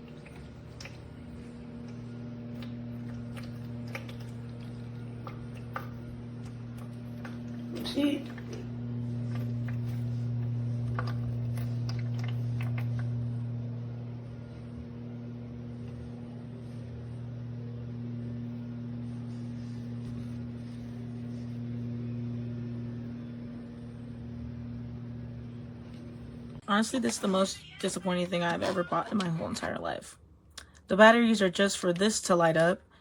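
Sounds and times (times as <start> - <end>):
toy washing machine humming: 0.0 - 30.0.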